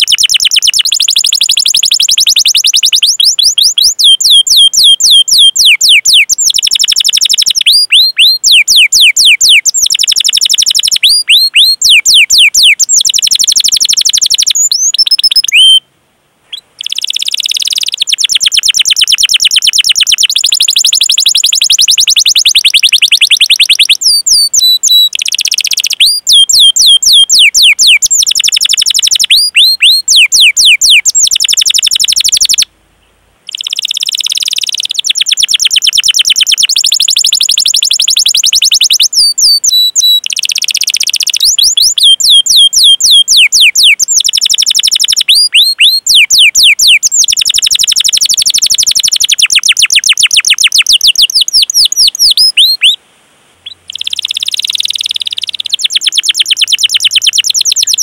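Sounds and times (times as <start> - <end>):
canary singing trills: 0.0 - 15.9, 16.5 - 32.7, 33.4 - 53.0, 53.6 - 58.0.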